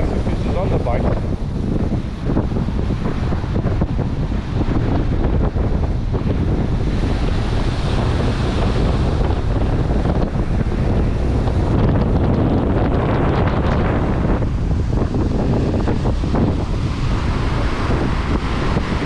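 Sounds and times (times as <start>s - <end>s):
surf breaking: 0.0s - 19.0s
wind rumbling on microphone: 0.0s - 19.0s.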